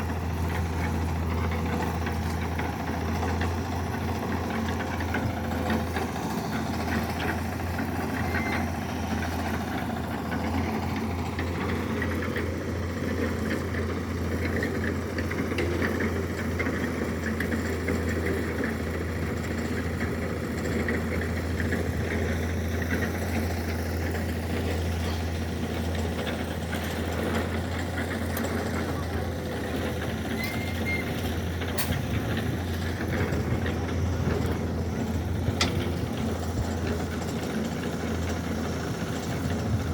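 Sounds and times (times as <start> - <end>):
heavy machine engine idling: 0.0 - 39.9.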